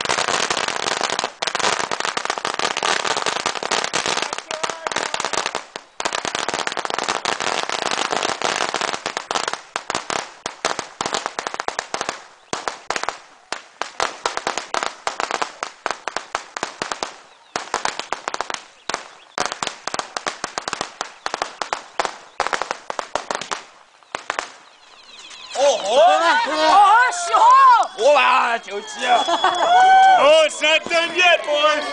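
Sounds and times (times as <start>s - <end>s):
firecrackers banging: 0.0s - 31.9s.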